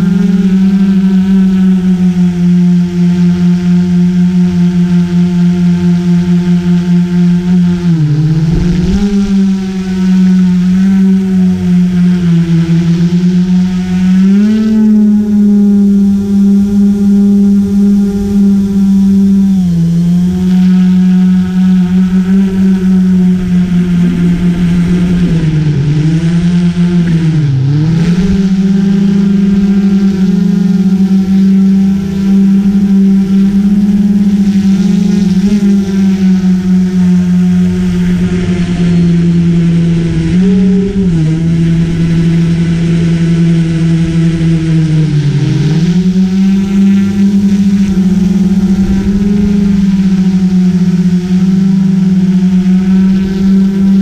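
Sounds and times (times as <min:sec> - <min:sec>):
drone motors and propellers humming: 0:00.0 - 0:54.0.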